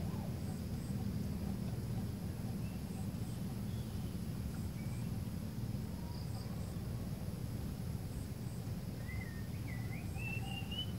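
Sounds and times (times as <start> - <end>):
low outdoor rumble: 0.0 - 10.9.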